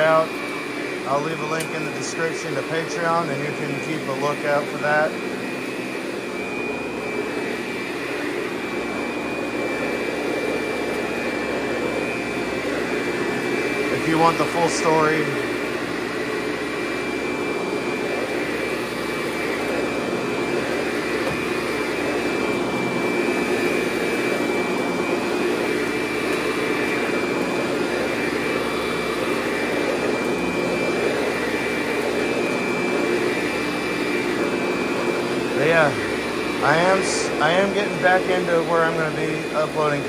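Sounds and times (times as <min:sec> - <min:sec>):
upright vacuum cleaner running: 0:00.0 - 0:40.0.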